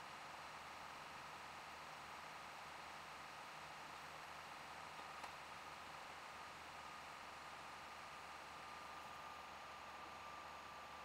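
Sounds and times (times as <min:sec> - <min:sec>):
disc drive whirring: 0:02.0 - 0:11.0.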